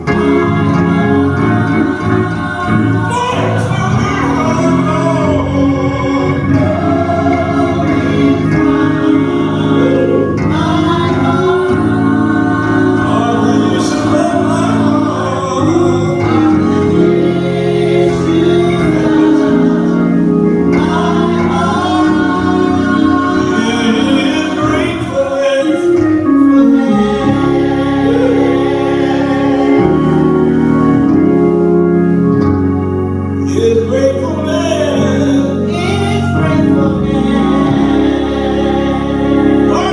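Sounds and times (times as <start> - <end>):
gospel choir singing: 0.0 - 39.9
organ: 0.0 - 39.9.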